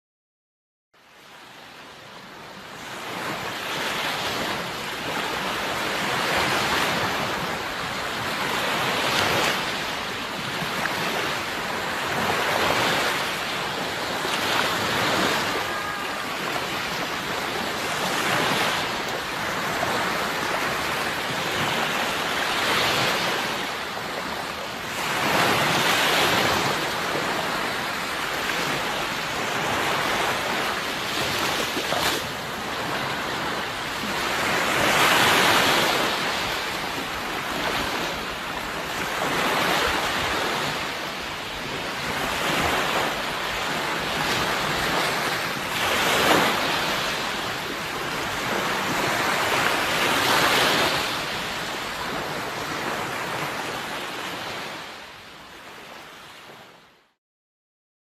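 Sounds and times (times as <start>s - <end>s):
sea waves breaking on shore: 1.0s - 57.0s.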